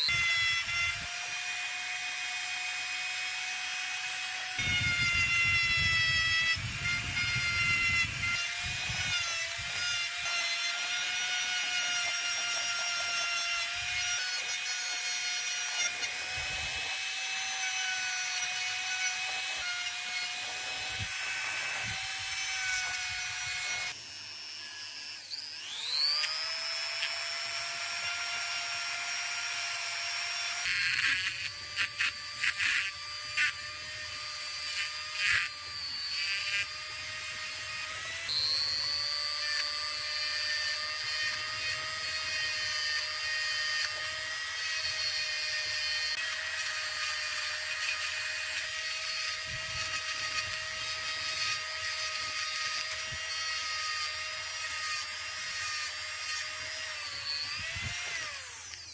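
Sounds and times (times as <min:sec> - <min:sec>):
rotary tool whining: 0:00.0 - 0:58.9.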